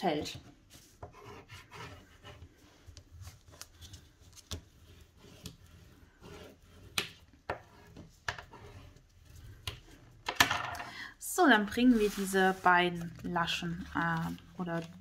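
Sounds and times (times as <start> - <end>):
paper rubbing and rustling: 0.6 - 10.2, 11.6 - 15.0.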